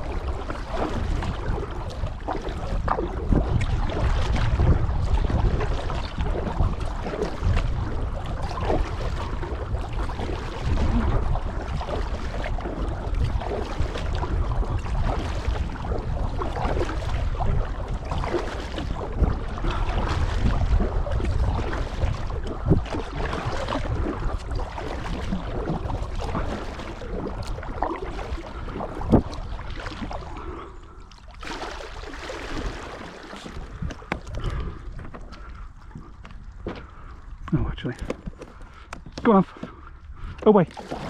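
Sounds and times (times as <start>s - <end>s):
kayak paddle splashing water: 0.0s - 41.0s
wind on microphone: 0.0s - 41.0s.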